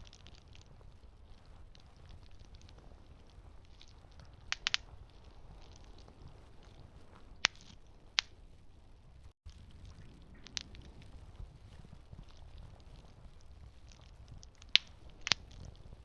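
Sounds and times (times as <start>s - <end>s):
campfire rumble: 0.0s - 16.0s
wood crackling and popping: 0.0s - 16.0s.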